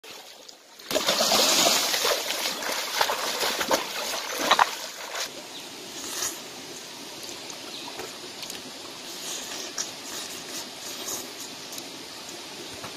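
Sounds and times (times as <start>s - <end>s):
stream trickling: 0.0s - 12.7s.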